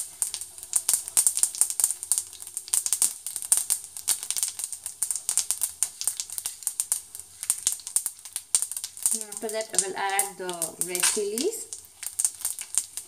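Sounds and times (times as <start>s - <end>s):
seeds spluttering in hot oil: 0.0s - 13.0s.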